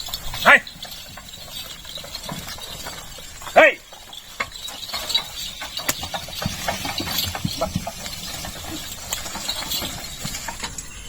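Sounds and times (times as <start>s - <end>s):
cart clicking and rattling: 0.0s - 11.0s.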